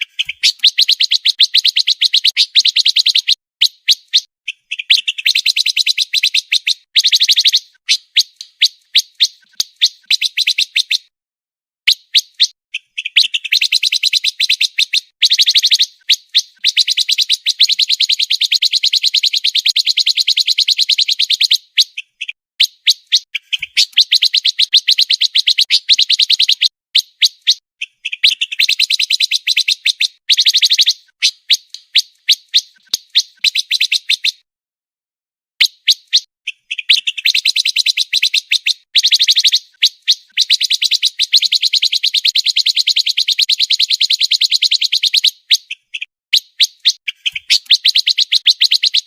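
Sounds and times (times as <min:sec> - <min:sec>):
songbird trilling: 0:00.0 - 0:11.1, 0:11.9 - 0:34.4, 0:35.6 - 0:49.0.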